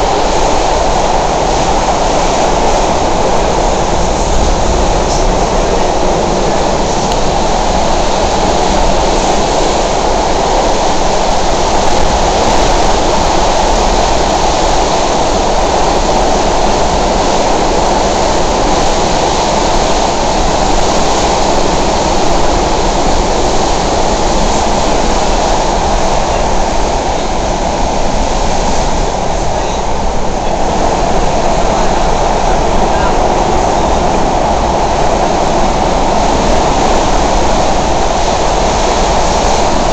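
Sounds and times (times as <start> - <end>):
subway car wheels rumbling on rails: 0.0 - 39.9.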